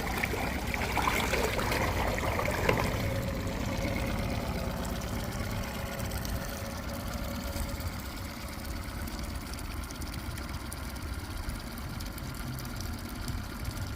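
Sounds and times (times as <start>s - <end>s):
outboard motor idling: 0.0s - 13.9s.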